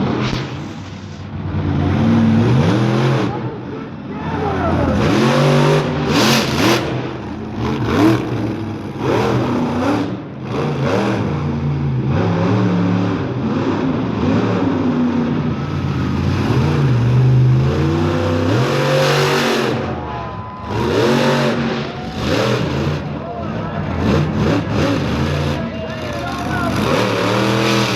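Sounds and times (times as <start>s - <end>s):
truck engine revving hard: 0.0s - 27.9s.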